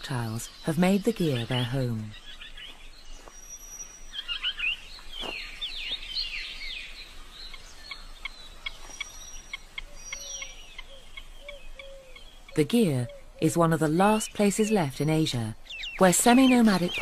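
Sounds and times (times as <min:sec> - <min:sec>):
birds chirping and whistling: 0:00.0 - 0:14.9, 0:15.6 - 0:17.0.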